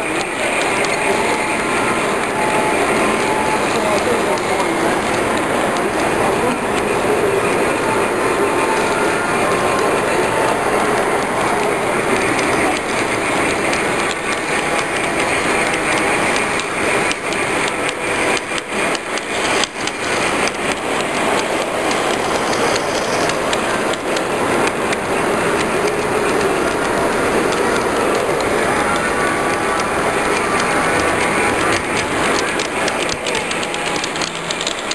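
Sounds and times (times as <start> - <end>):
model train clicking rattle on track: 0.0 - 34.9.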